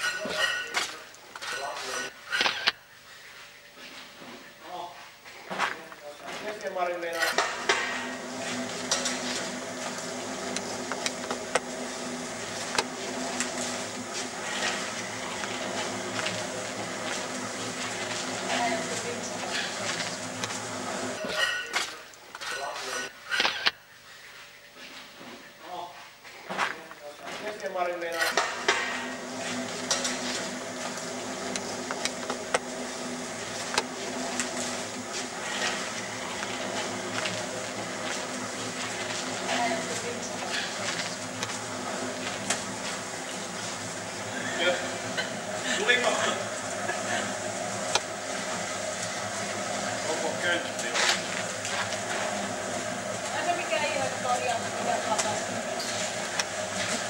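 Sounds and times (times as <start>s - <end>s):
low machine hum: 0.0s - 23.1s, 27.0s - 57.0s.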